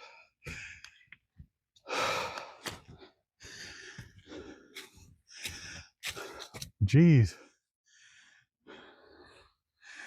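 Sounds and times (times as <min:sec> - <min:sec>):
man breathing hard: 0:00.0 - 0:01.2, 0:01.8 - 0:06.6, 0:07.4 - 0:10.0.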